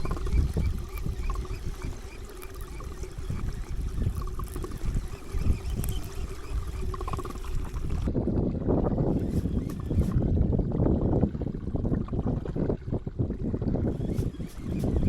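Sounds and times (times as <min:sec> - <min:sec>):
faint steady hum: 0:00.0 - 0:15.0
water sloshing against boat: 0:00.0 - 0:15.0
wind rumble on microphone: 0:00.0 - 0:15.0.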